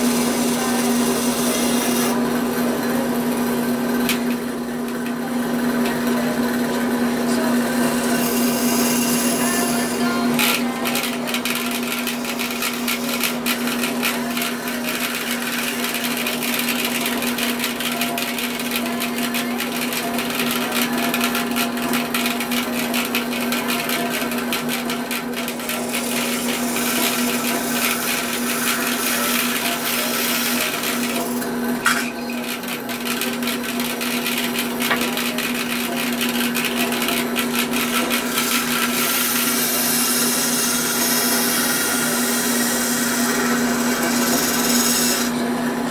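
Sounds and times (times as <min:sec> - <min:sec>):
bandsaw motor hum: 0:00.0 - 0:45.9
saw cutting noise: 0:00.0 - 0:45.9.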